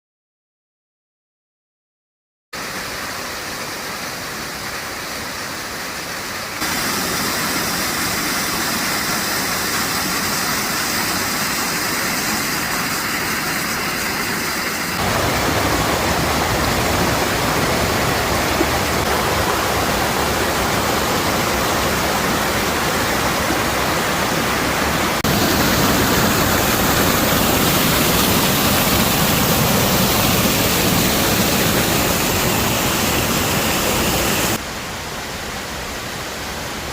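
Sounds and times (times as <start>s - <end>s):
waterfall rushing: 2.6s - 36.9s.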